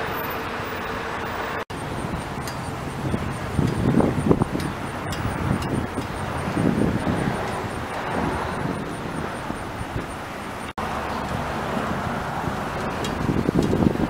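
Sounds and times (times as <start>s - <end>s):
traffic rumble: 0.0s - 14.0s
wind buffeting microphone: 1.7s - 14.0s.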